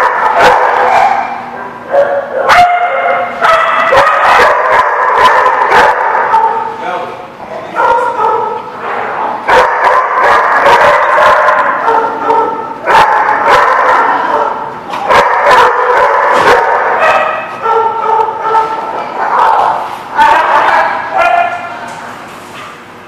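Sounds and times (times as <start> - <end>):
dogs barking and yipping: 0.0 - 6.8, 7.7 - 21.8.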